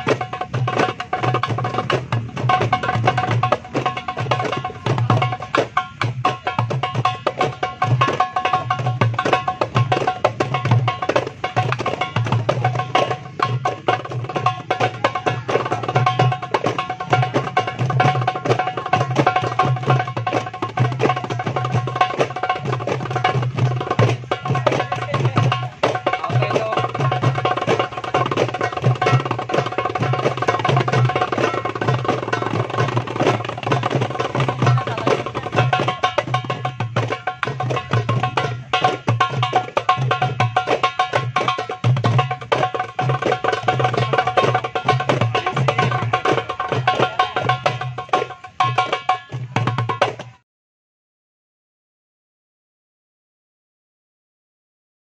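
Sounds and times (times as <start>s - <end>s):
goblet drums played by hand: 0.0s - 50.4s.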